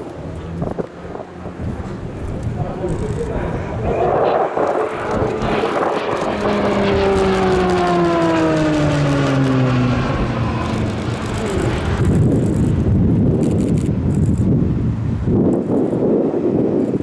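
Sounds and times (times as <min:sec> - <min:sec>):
jet aircraft passing: 0:00.0 - 0:14.6.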